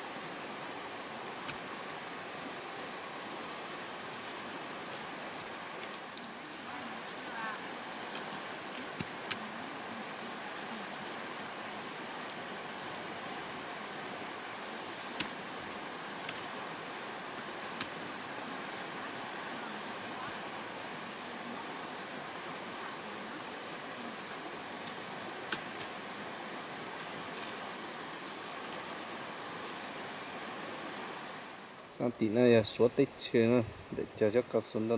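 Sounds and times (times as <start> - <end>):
stream flowing over rocks: 0.0 - 31.9.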